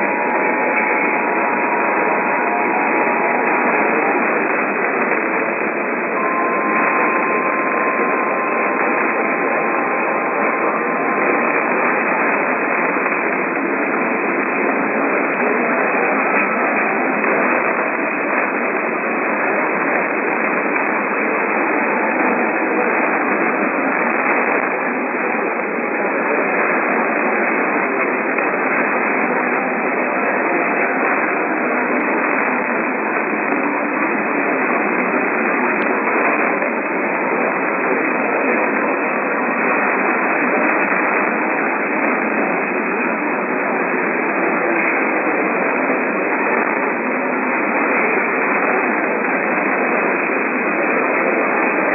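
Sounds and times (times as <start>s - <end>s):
radio static hiss: 0.0s - 51.9s.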